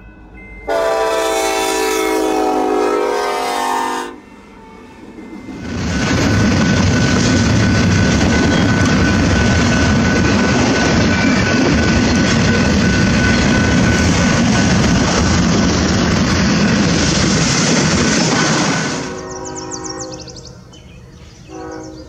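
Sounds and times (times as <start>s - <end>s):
diesel locomotive and train passing: 0.0s - 22.0s.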